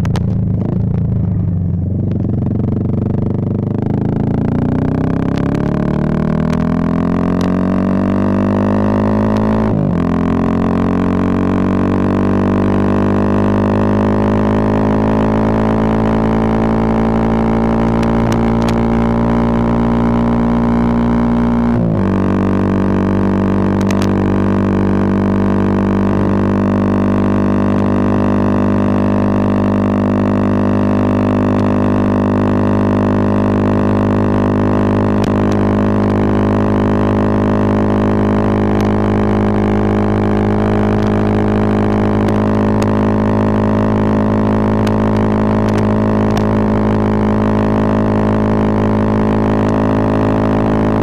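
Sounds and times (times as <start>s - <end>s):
motorcycle engine accelerating: 0.0s - 51.0s.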